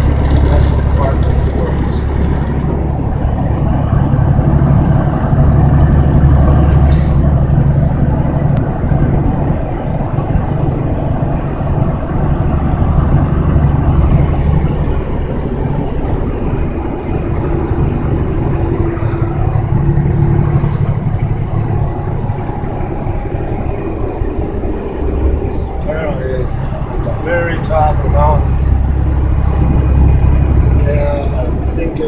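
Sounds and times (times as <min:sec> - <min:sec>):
truck engine and road rumble: 0:00.0 - 0:32.0.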